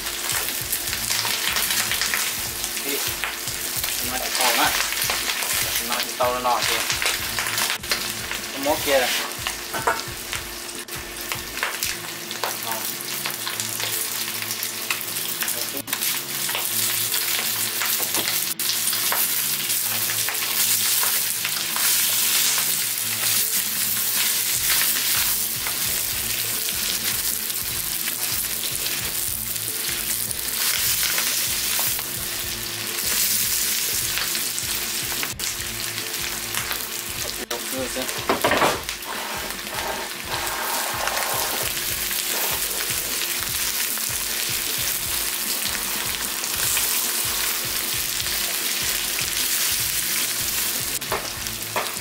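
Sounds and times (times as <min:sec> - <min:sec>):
food sizzling in a wok: 0:00.0 - 0:52.0.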